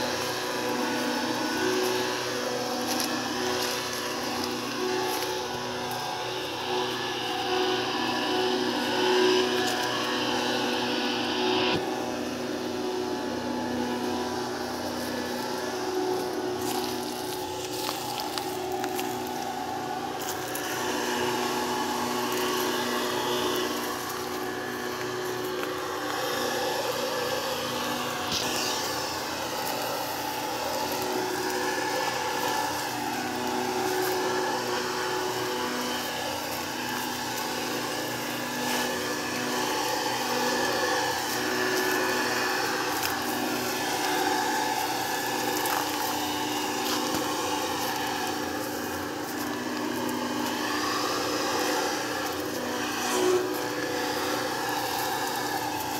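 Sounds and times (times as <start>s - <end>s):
sprayer blower motor humming: 0.0s - 55.9s.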